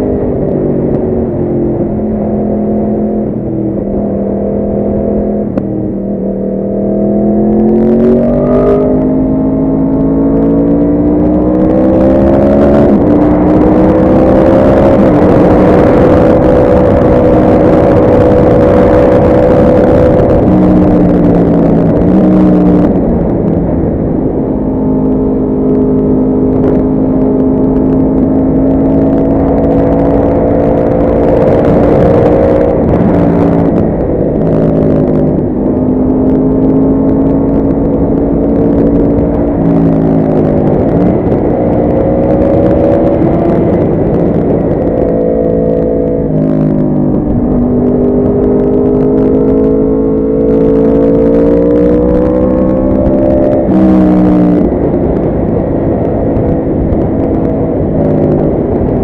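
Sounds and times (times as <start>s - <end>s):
motorcycle engine running hard: 0.0s - 59.0s
wind rush: 0.0s - 59.0s.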